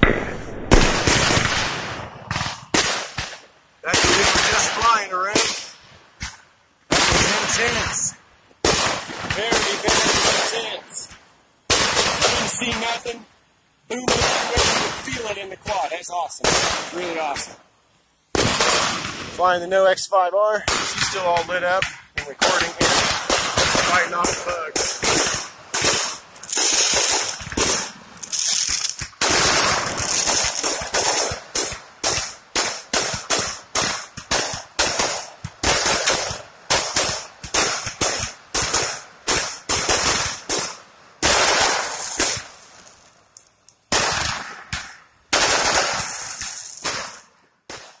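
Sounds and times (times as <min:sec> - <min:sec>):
fireworks bangs: 0:00.0 - 0:13.3, 0:13.9 - 0:17.6, 0:18.3 - 0:43.2, 0:43.9 - 0:48.0
fireworks crackle: 0:00.0 - 0:48.0.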